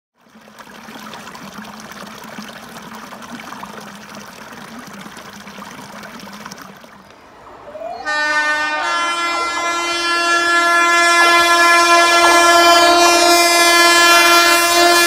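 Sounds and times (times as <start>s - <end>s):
stream running over rocks: 0.2s - 15.0s.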